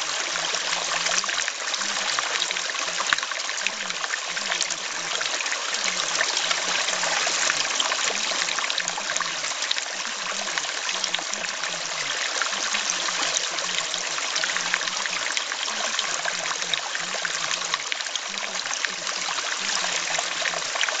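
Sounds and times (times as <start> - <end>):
faint low voice speaking: 0.0 - 21.0
stream water trickling: 0.0 - 21.0.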